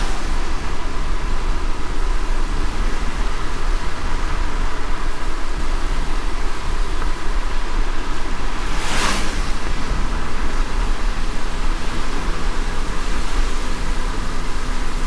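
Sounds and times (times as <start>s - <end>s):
car road rumble: 0.0s - 15.0s
hiss of rain: 0.0s - 15.0s.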